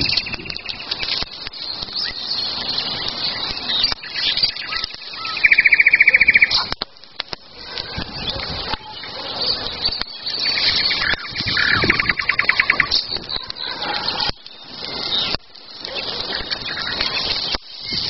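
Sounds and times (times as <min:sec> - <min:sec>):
rapid bird trill: 0:00.0 - 0:06.7, 0:07.9 - 0:18.0
birds chirping: 0:00.0 - 0:18.0.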